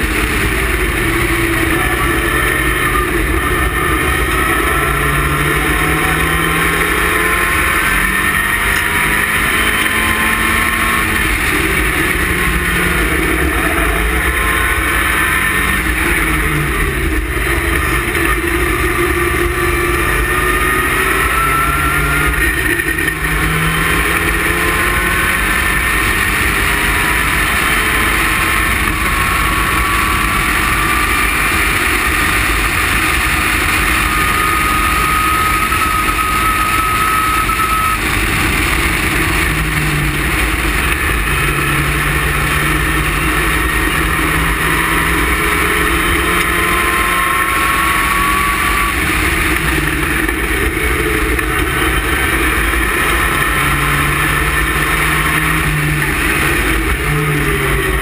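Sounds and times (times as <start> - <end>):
sports car engine revving: 0.0 - 58.0
wind and road noise: 0.0 - 58.0.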